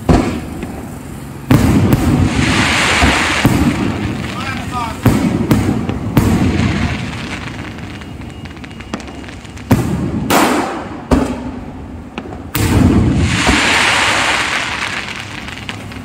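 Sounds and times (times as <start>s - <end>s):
crackling hiss: 0.0s - 16.0s
firework bangs rumbling: 0.0s - 16.0s.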